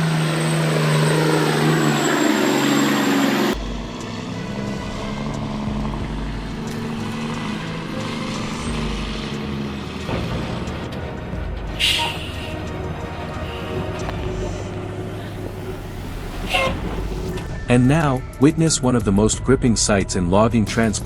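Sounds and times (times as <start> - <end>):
truck engine under load: 0.0 - 17.8
deep truck engine rumble: 0.0 - 21.0.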